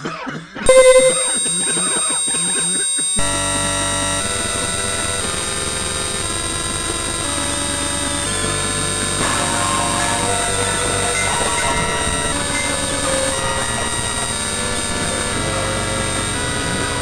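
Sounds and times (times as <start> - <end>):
stacked electronic held tones: 0.6 - 17.0.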